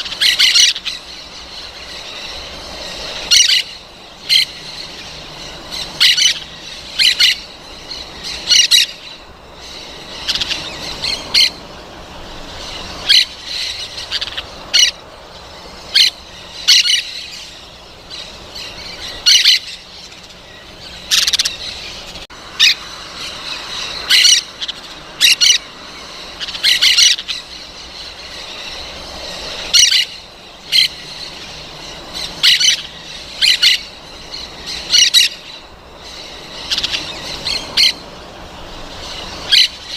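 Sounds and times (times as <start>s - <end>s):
parrots squawking: 0.0s - 39.9s.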